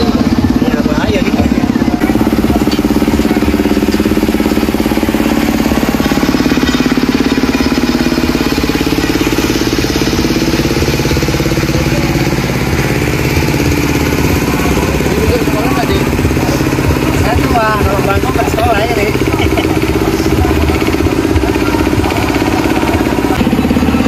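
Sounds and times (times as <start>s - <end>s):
engine running with fast pulse: 0.0s - 24.0s.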